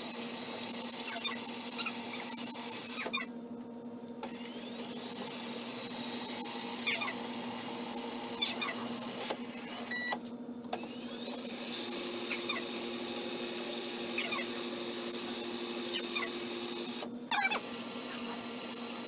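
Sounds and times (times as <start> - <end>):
electronic hum of game machines: 0.0 - 19.0.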